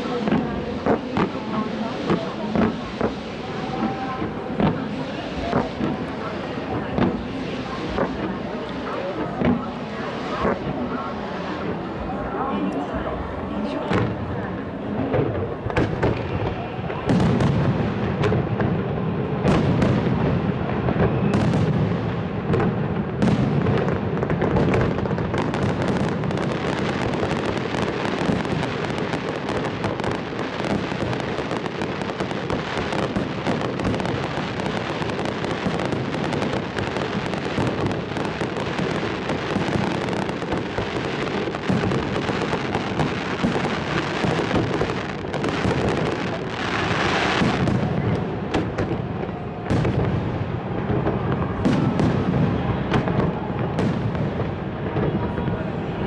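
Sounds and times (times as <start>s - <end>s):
fireworks booming: 0.0s - 56.0s
fireworks crackling: 0.0s - 56.0s.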